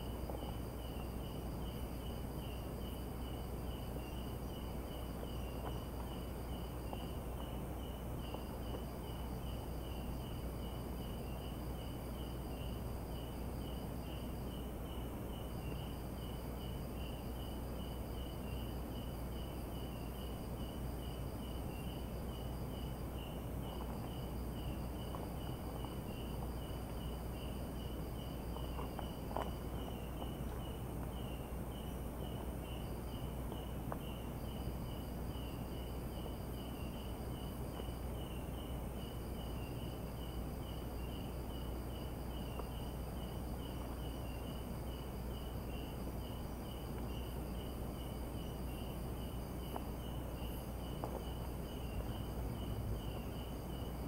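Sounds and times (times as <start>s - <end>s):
constant high whine: 0.0s - 54.0s
cricket chirping: 0.0s - 54.0s
low steady hum: 0.0s - 54.0s.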